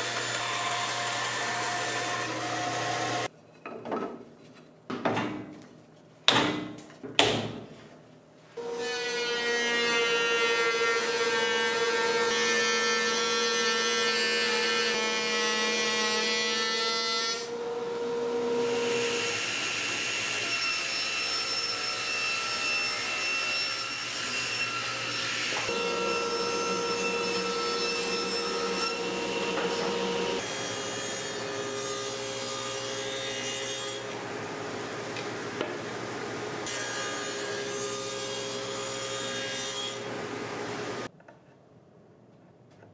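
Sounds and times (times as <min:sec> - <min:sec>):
table saw cutting wood: 0:00.0 - 0:03.3, 0:08.6 - 0:36.0, 0:36.6 - 0:41.1.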